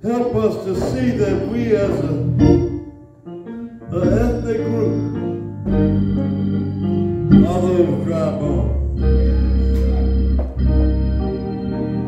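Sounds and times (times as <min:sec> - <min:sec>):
deep organ bass note: 0:00.0 - 0:02.9, 0:03.8 - 0:12.0
church organ chords: 0:00.0 - 0:12.0.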